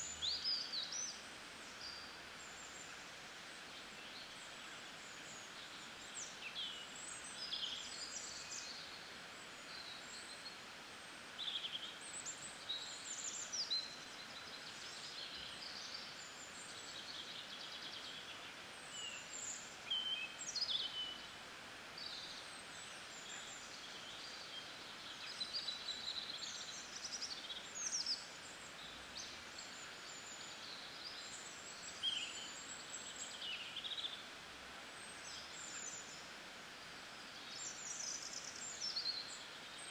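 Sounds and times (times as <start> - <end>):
outdoor ambience hiss: 0.0 - 39.9.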